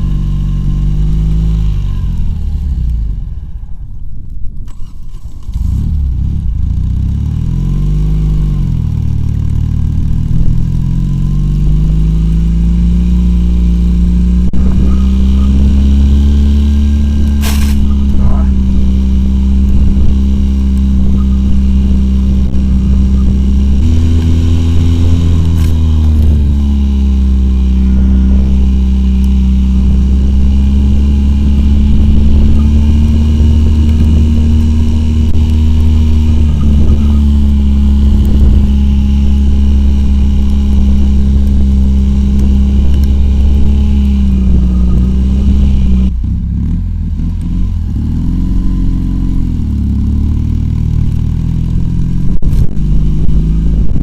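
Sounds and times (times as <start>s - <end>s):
quad bike engine revving: 0.0s - 2.7s, 4.8s - 54.0s.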